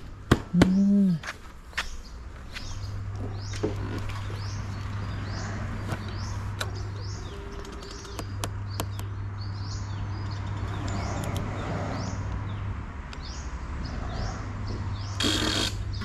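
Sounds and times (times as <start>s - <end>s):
bird chirping: 1.8s - 16.0s.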